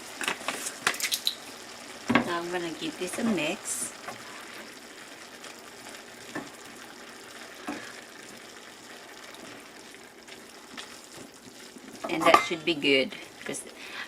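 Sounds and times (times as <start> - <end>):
food sizzling and bubbling in a pan: 0.0 - 14.0.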